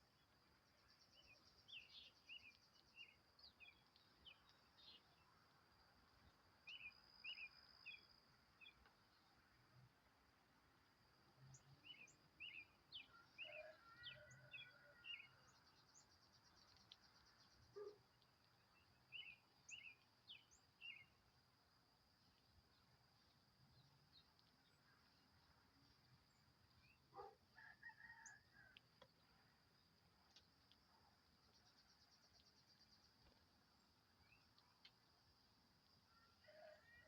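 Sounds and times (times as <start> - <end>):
songbirds chirping: 0.0 - 37.0.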